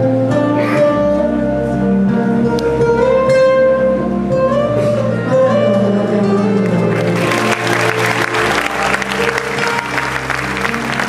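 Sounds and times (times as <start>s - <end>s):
live band music: 0.0s - 11.0s
plucked acoustic guitar: 0.0s - 11.0s.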